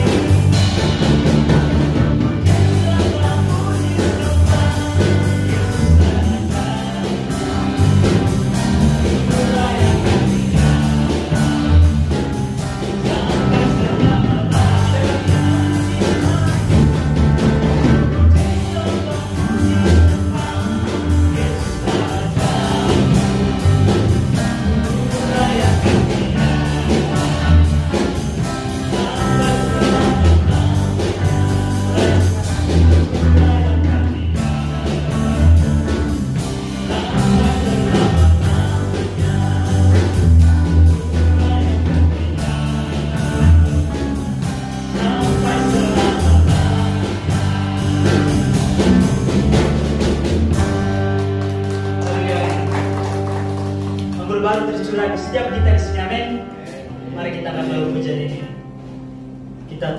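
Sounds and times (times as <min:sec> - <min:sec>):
person singing into a microphone: 0:00.0 - 0:17.0, 0:17.8 - 0:49.0
acoustic guitar: 0:00.0 - 0:59.9
electric bass: 0:00.0 - 0:59.9.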